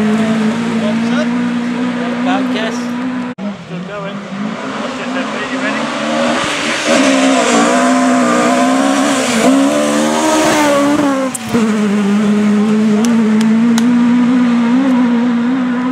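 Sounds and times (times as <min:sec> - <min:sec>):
rally car engine at high revs: 0:00.0 - 0:15.9.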